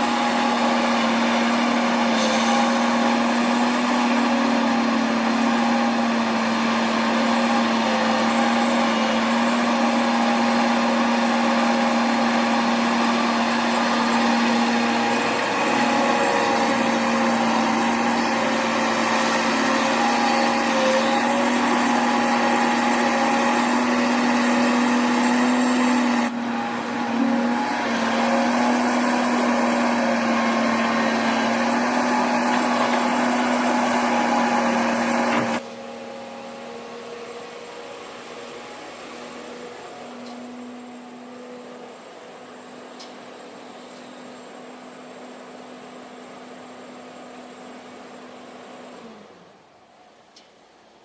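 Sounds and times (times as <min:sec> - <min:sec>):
heavy machinery engine whining: 0:00.0 - 0:50.0.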